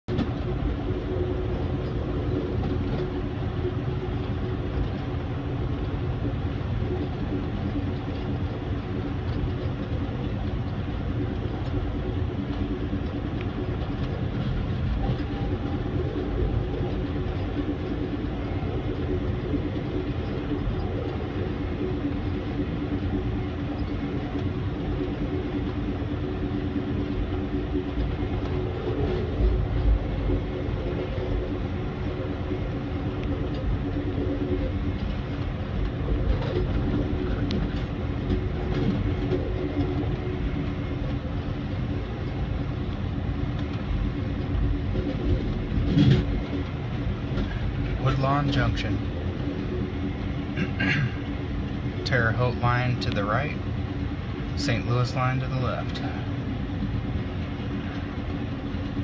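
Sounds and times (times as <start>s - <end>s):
steady train hum: 0.0s - 59.0s
train wheels rumbling on rail: 0.0s - 59.0s.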